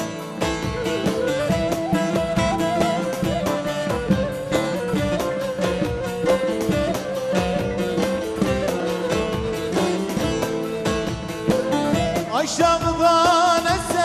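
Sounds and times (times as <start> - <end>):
plucked saz melody: 0.0 - 14.0.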